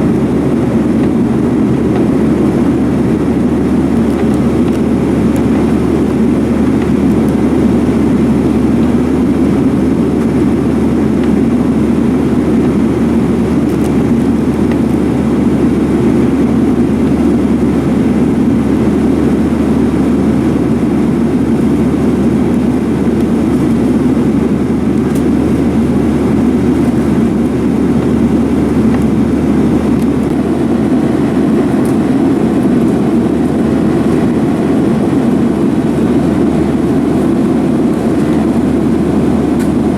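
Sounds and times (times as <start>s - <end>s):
jet engine roar inside cabin: 0.0s - 39.9s.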